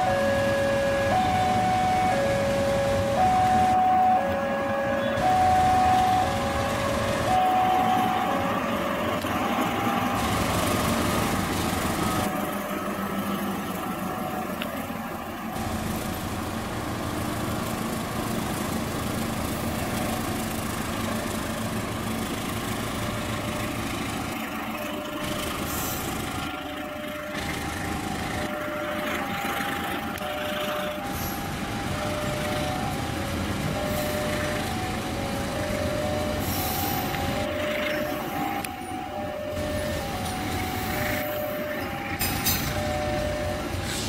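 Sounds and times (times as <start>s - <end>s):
locomotive engine running: 0.0s - 44.0s
train wheels on track: 5.1s - 44.0s.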